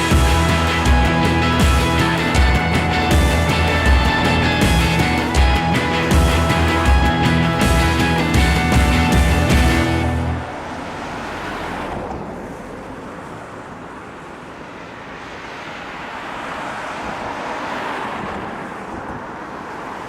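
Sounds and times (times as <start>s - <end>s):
waves washing: 0.0s - 19.2s.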